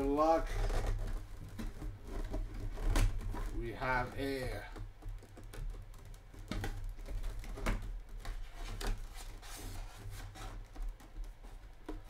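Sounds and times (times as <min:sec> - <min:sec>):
cardboard crinkling and scraping: 0:00.0 - 0:12.0.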